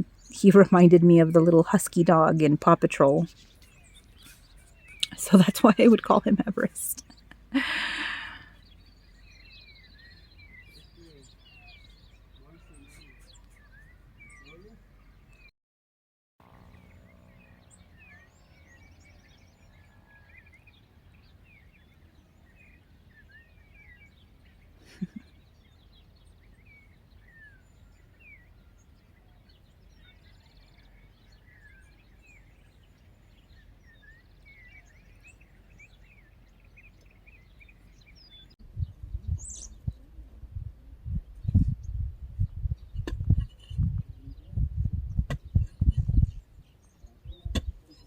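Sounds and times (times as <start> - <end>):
small birds chirping: 0.0 - 15.5, 16.7 - 48.0.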